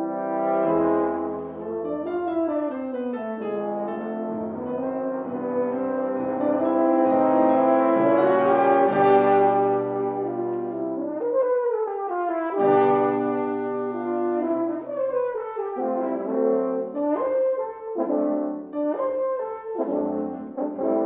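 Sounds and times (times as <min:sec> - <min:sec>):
french horns playing in harmony: 0:00.0 - 0:21.0
piano: 0:00.0 - 0:21.0.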